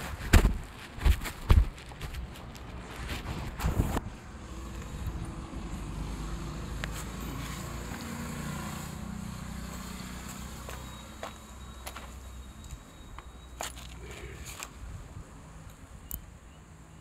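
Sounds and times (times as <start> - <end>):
vehicle engine rumbling: 0.0 - 16.5.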